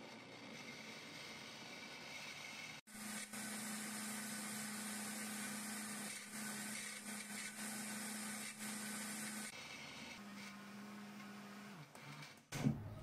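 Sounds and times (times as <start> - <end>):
blender whirring: 0.0 - 12.3.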